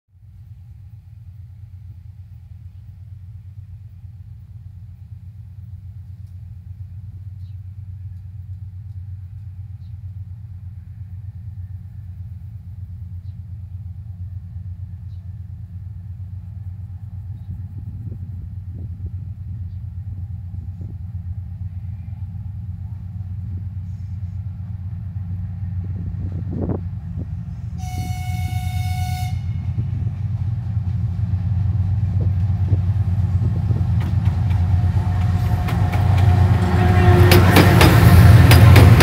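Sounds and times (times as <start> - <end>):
diesel locomotive rumbling: 0.2 - 39.0.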